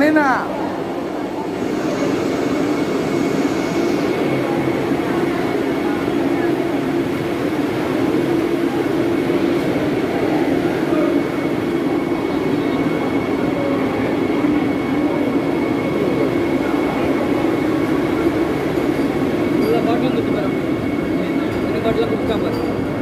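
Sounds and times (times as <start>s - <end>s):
electric train low hum: 0.0s - 23.0s.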